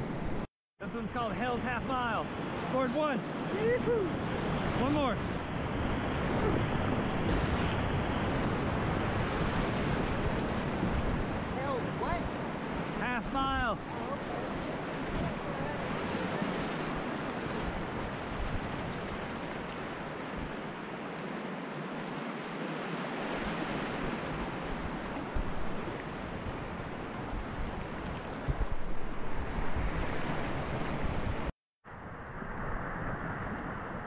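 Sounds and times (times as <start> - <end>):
rushing whitewater: 0.9 - 31.5
wind buffeting microphone: 3.5 - 13.0, 13.8 - 20.8, 23.2 - 34.0.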